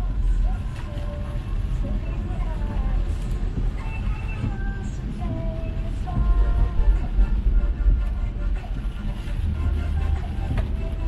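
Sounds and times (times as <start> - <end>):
car tyres and engine rumble: 0.0 - 11.0.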